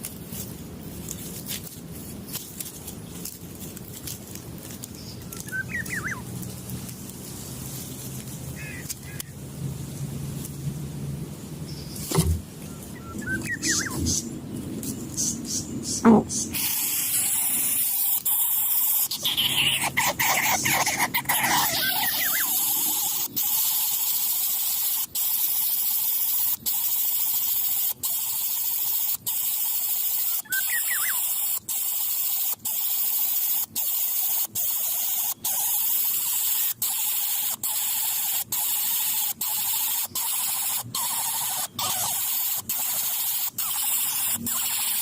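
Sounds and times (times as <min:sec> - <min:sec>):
steady high hiss: 0:00.0 - 0:45.0.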